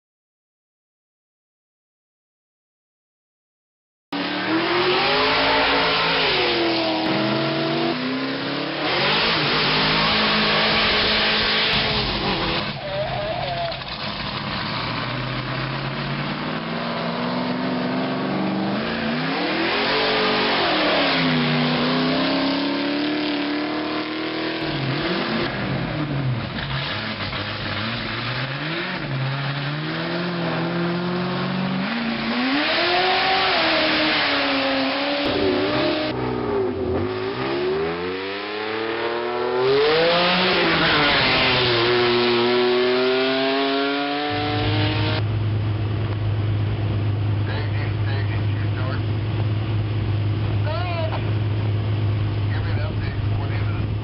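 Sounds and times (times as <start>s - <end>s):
car engines revving hard: 4.2s - 54.0s.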